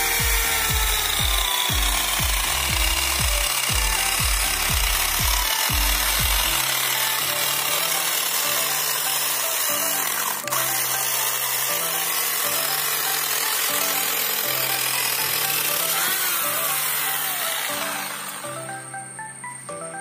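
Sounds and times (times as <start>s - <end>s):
electric chainsaw cutting log: 0.0s - 20.0s.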